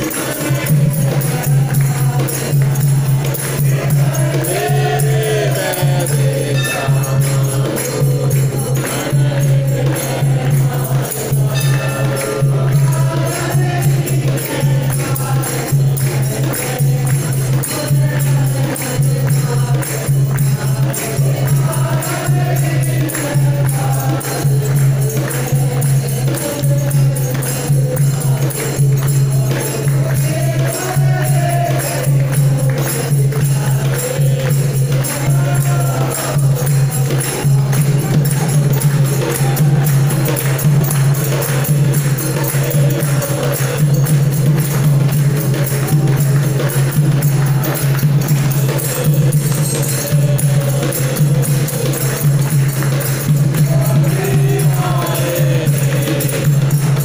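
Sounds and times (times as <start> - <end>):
group singing devotional song: 0.0 - 57.0
jingling hand percussion: 0.0 - 57.0.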